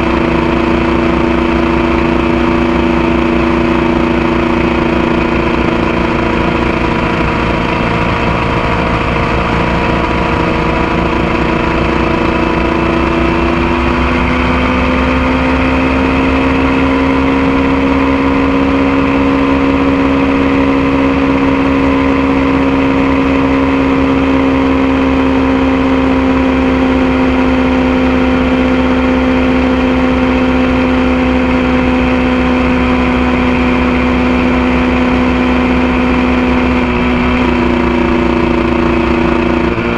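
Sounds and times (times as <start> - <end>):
motorcycle engine running: 0.0 - 39.9
road rumble: 0.0 - 39.9
wind: 0.0 - 39.9.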